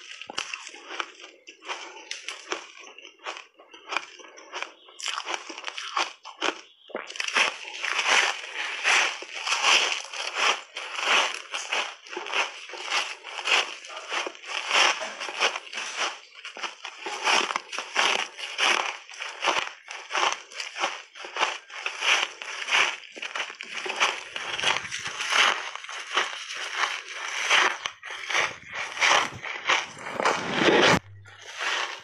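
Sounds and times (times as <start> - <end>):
crunchy shaved ice being chewed: 0.0 - 32.0.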